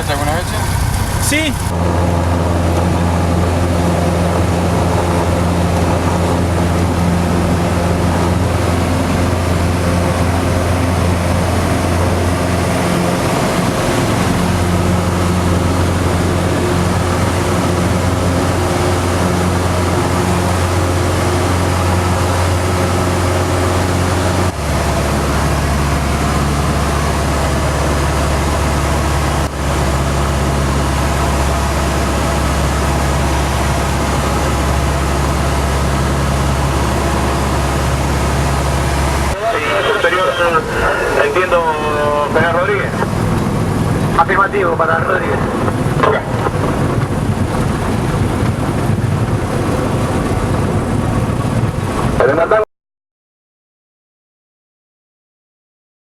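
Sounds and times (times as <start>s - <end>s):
plane engine and propeller droning: 0.0s - 52.6s.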